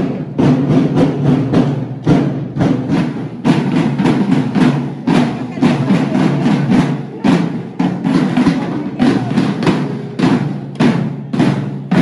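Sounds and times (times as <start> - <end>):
snare drums marching beat: 0.0 - 12.0.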